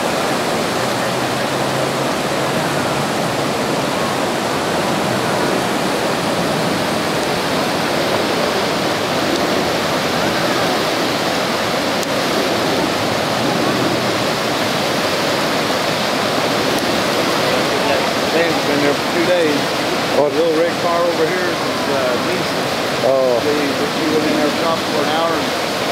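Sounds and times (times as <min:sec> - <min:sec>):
floodwater rushing: 0:00.0 - 0:25.9.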